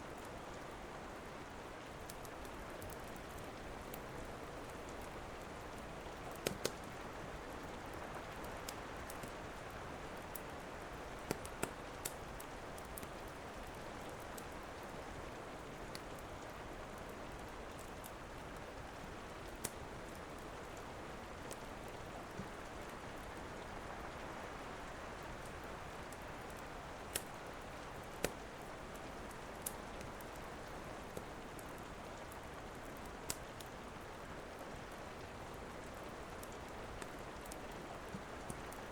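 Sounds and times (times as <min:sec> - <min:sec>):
steady rain: 0:00.0 - 0:38.9
wood fire crackling: 0:00.1 - 0:38.9.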